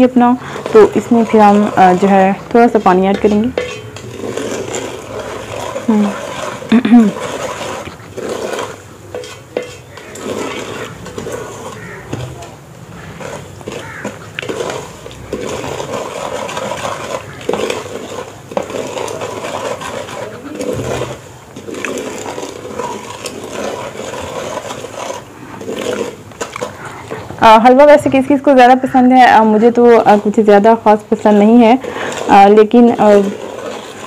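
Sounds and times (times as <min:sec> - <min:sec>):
wooden spoon scraping metal pot: 0:00.0 - 0:34.0.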